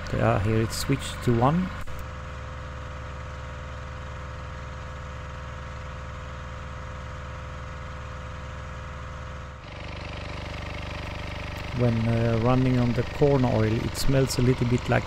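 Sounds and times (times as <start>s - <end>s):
diesel generator engine running: 0.0s - 15.0s.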